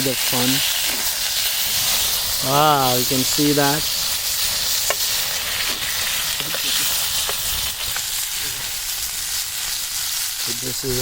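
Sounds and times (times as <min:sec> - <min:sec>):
patties sizzling in a frying pan: 0:00.0 - 0:11.0.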